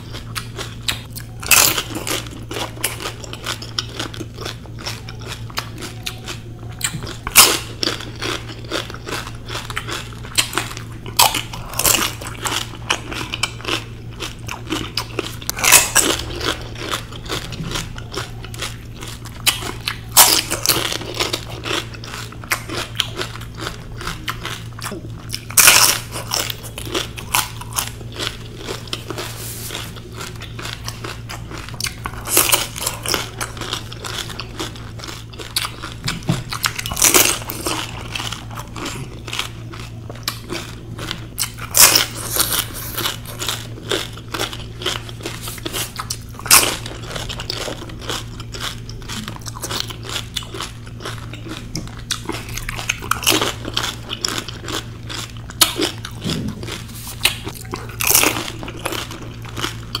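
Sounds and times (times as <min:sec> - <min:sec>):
chewing: 0:00.0 - 1:00.0
crisp shells crunching in mouth: 0:00.0 - 1:00.0
steady low hum: 0:00.0 - 1:00.0.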